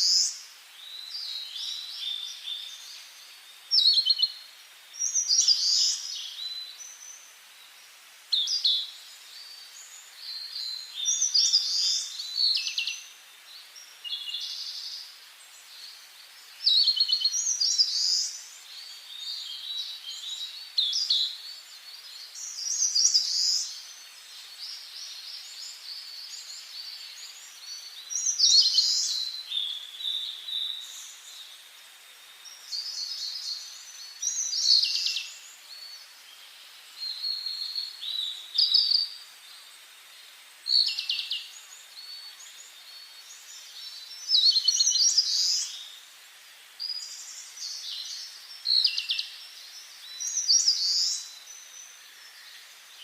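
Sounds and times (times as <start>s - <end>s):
faint steady hiss: 0.0s - 53.0s
songbirds singing: 0.0s - 53.0s.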